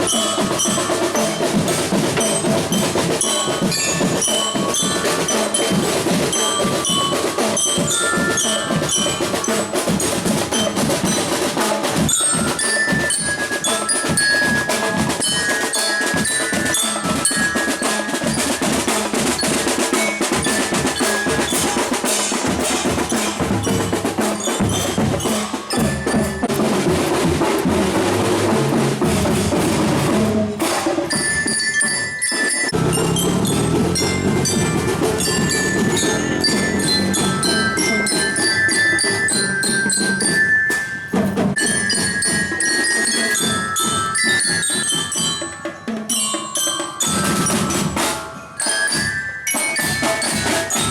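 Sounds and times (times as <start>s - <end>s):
bell lyre melody: 0.0s - 29.5s, 31.0s - 50.9s
snare and bass drums: 0.0s - 45.4s, 46.1s - 50.9s.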